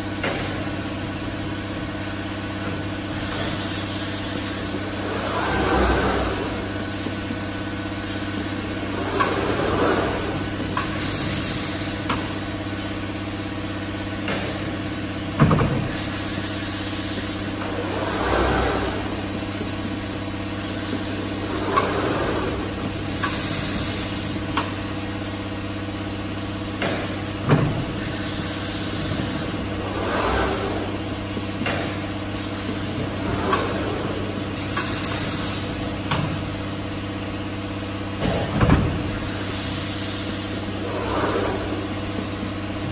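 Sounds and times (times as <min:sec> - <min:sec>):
machine drive hum: 0:00.0 - 0:42.9.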